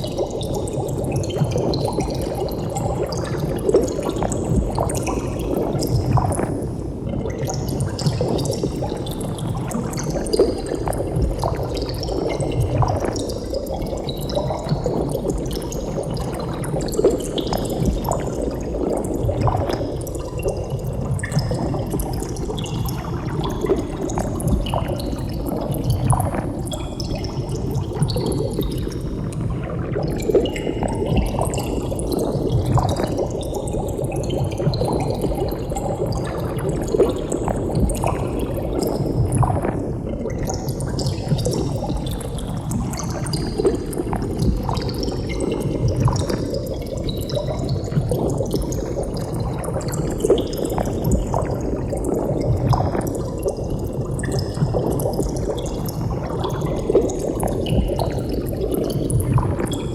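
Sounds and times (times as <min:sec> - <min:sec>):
water bubbling and gurgling: 0:00.0 - 0:59.9.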